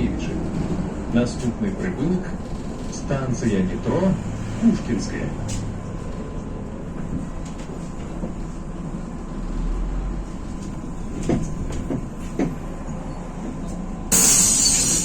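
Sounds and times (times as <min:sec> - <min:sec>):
bus cabin rumble: 0:00.0 - 0:14.1.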